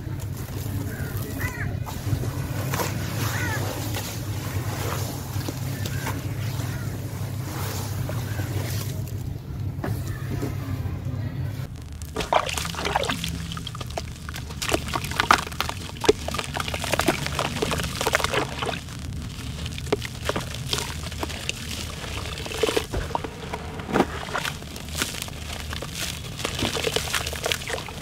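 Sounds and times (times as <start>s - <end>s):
wet charcoal crackling and squelching: 0.0s - 10.2s, 11.6s - 28.0s
slurry pouring and splashing: 0.4s - 9.2s, 11.7s - 28.0s.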